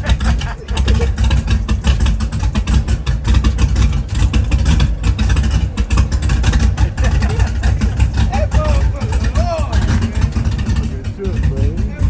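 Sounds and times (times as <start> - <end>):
v eight engine idling unevenly: 0.0 - 12.0.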